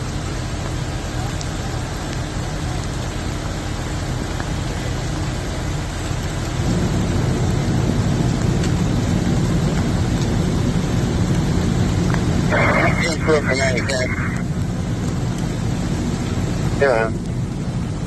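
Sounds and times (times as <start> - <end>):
heavy rain hissing: 0.0 - 18.0
vehicle engine running: 0.0 - 18.0.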